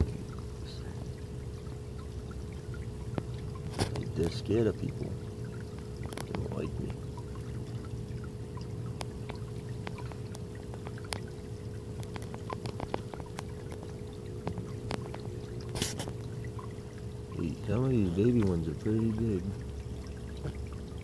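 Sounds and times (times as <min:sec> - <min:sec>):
faint steady hum: 0:00.0 - 0:21.0
pond water trickling: 0:00.0 - 0:21.0
small water drips and plops: 0:00.0 - 0:21.0.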